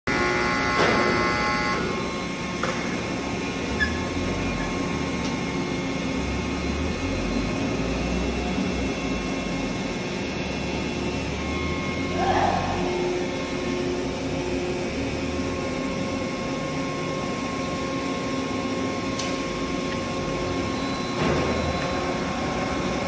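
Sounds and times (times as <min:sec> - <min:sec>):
factory machine whirring hum: 0:00.1 - 0:23.0.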